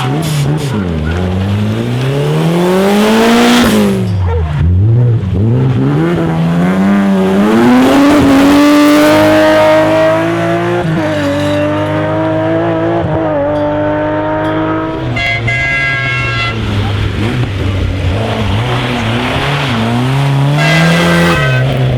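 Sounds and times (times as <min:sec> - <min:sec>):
rally car engine accelerating: 0:00.0 - 0:21.9.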